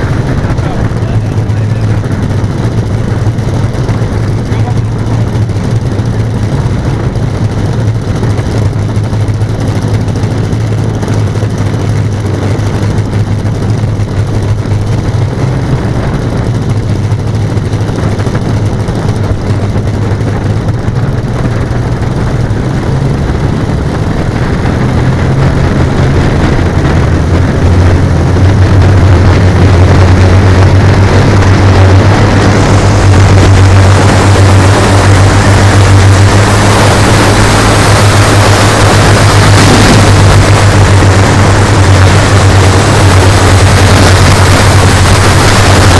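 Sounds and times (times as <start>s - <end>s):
model plane engines droning: 0.0s - 45.9s.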